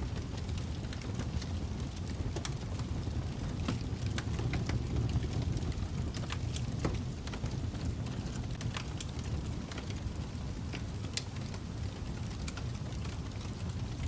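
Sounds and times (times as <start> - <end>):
low rumble of storm wind: 0.0 - 14.0
wood fire crackling and popping: 0.0 - 14.0.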